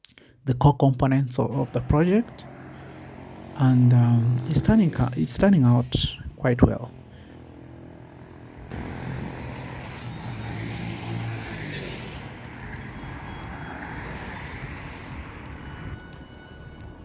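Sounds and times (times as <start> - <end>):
passing road traffic: 1.3 - 17.0.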